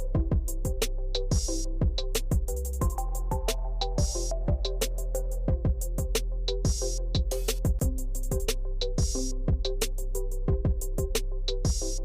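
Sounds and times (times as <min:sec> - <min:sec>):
electronic music with drum machine: 0:00.0 - 0:12.0.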